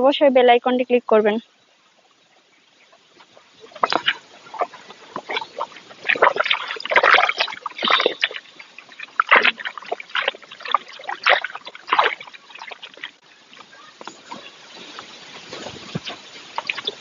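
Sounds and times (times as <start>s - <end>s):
water splashing: 1.7s - 17.0s
cow slurping water: 1.8s - 17.0s.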